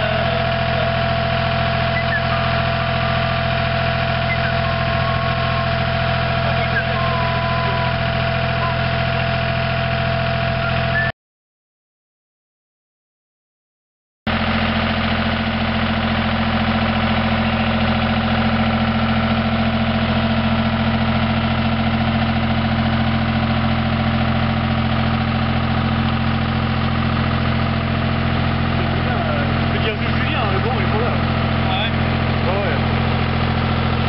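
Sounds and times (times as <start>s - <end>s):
tractor engine running: 0.0s - 11.1s, 14.3s - 34.0s.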